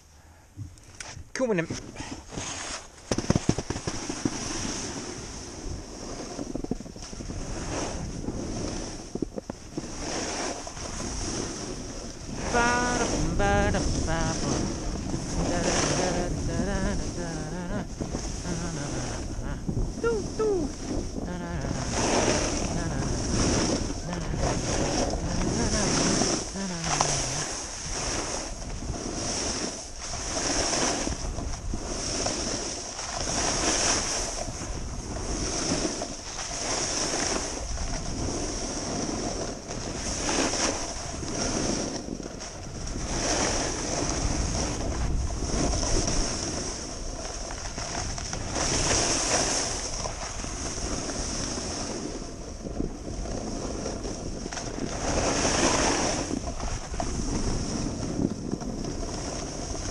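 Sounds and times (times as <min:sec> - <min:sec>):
wind rushing over microphone: 0:00.0 - 0:59.9
snowboard edges scraping snow: 0:01.0 - 0:59.9.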